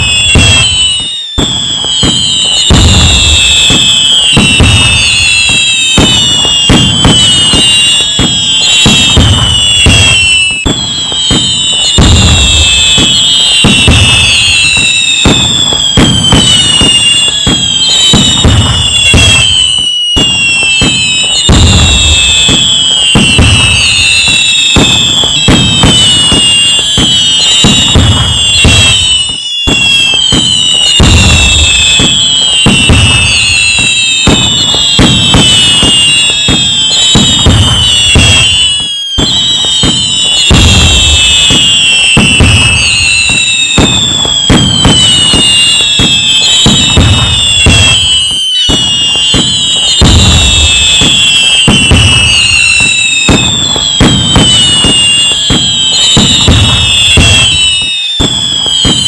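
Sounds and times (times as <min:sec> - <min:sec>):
fireworks bangs and crackling: 0:00.0 - 0:59.0
fireworks whistles falling in pitch: 0:00.0 - 0:59.0.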